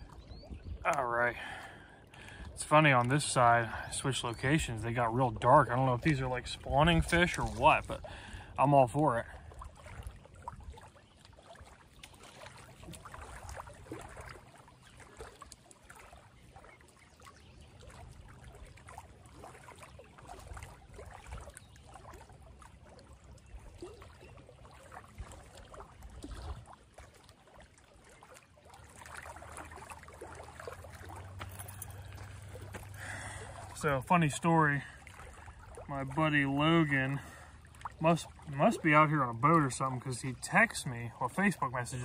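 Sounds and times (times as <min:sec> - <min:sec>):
small waves lapping on rocks: 0:00.0 - 0:42.0.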